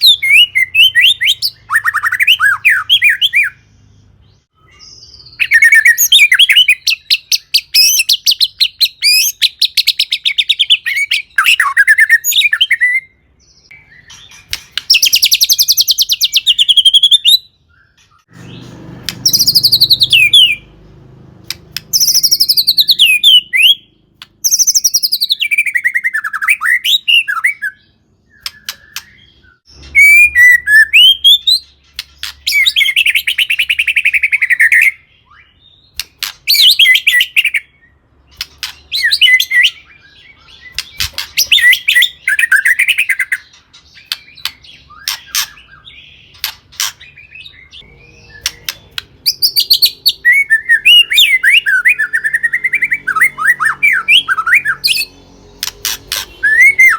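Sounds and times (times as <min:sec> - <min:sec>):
songbird singing trills and whistles: 0:00.0 - 0:56.9.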